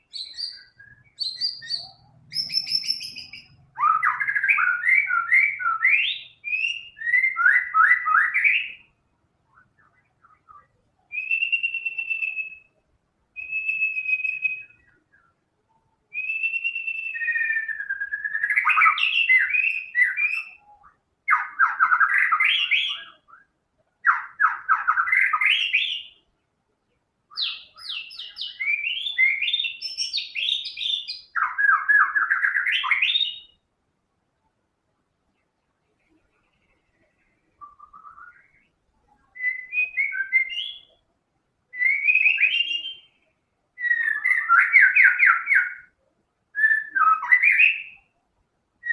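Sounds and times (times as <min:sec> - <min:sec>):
bird singing trills and whistles: 0:00.0 - 0:12.8, 0:13.4 - 0:26.3, 0:27.3 - 0:33.6, 0:36.1 - 0:41.0, 0:41.7 - 0:48.1.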